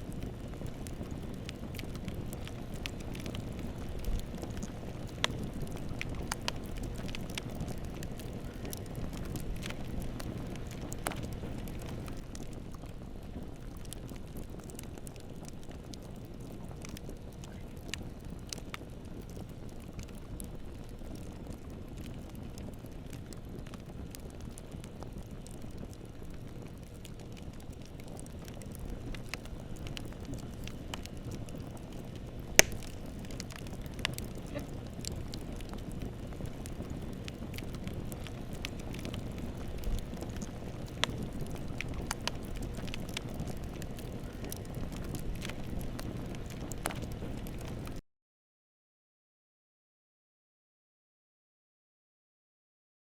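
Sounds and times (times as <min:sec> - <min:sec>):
bonfire flames rumbling: 0:00.0 - 0:48.0
fire crackles and pops: 0:00.0 - 0:48.0.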